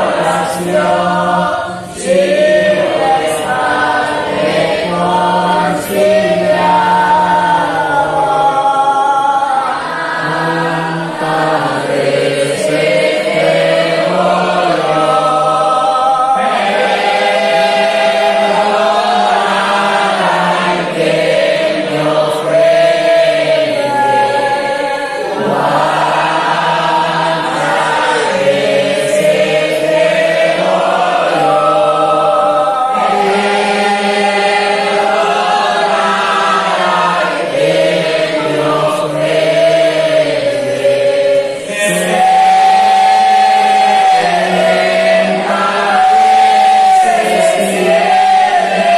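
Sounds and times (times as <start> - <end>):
voices singing a hymn: 0.0 - 48.9.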